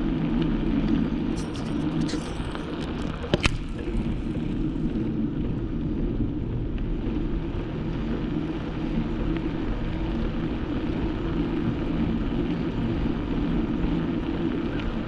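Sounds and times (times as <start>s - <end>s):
wind and road rumble: 0.0s - 15.0s.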